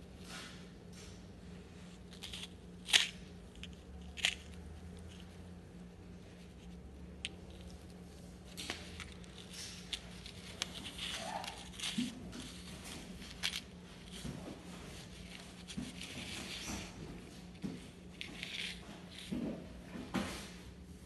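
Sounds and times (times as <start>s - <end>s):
gloves and paper rustling: 0.2s - 20.6s.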